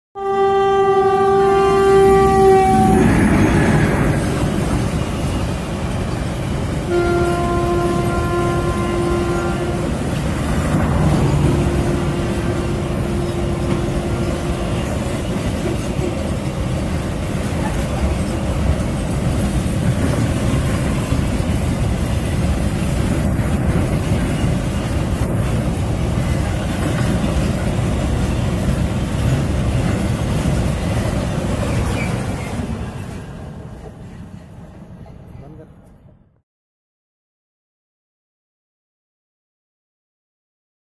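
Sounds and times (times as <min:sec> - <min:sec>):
steel wheels rumbling on rails: 0:00.3 - 0:36.0.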